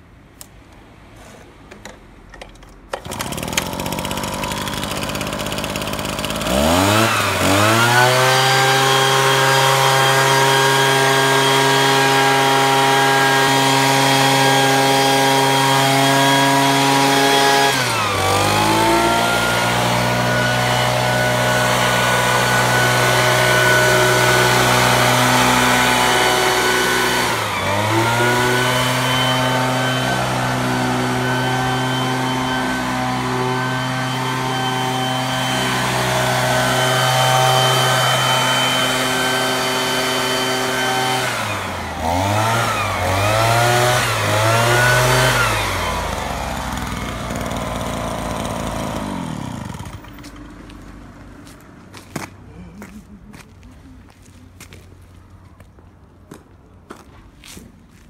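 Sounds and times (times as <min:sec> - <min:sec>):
leaf blower engine revving: 0:02.9 - 0:50.9.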